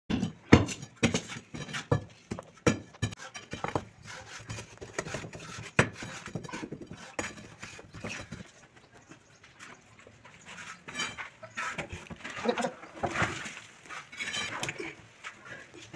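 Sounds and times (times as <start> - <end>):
building work knocks and clatter: 0.1 - 15.9.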